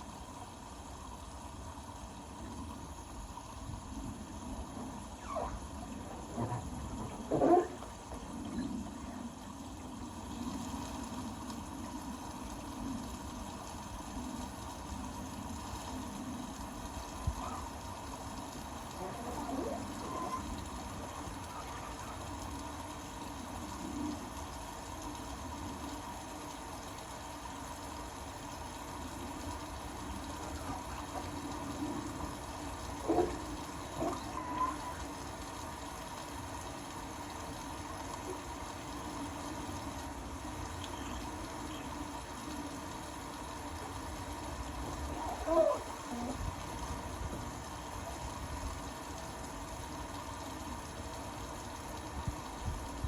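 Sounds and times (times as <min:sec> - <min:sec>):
faint hum: 0:00.0 - 0:53.0
water running in washing machine: 0:00.0 - 0:53.0.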